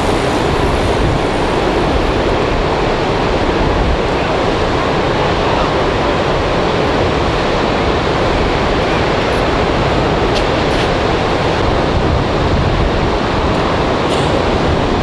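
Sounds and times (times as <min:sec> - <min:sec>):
ocean surf washing up beach: 0:00.0 - 0:15.0.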